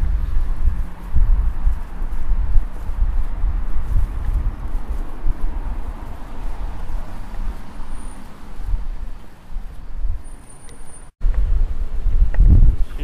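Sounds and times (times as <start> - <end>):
road traffic: 0.0 - 13.0
wind rumble on microphone: 0.0 - 13.0.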